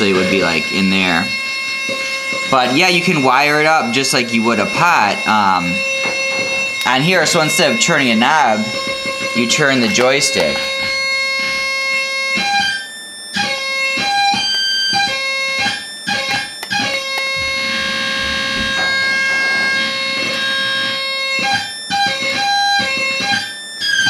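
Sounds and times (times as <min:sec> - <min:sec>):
electronic oscillator tone: 0:00.0 - 0:24.0.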